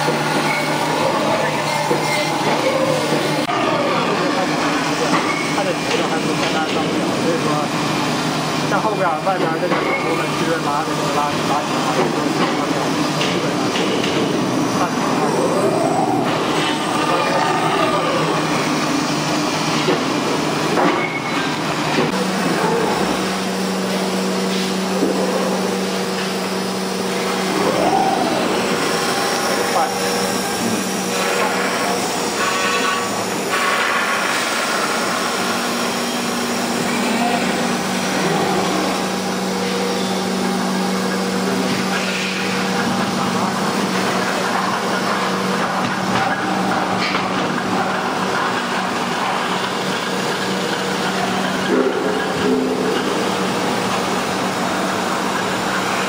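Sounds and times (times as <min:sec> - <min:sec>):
cnc router spindle running: 0:00.0 - 0:56.0.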